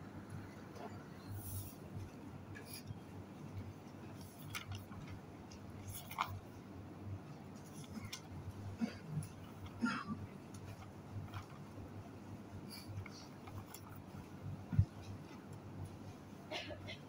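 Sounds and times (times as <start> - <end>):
steady hum: 0.0 - 17.0
faint clicks and rustles: 0.3 - 16.5.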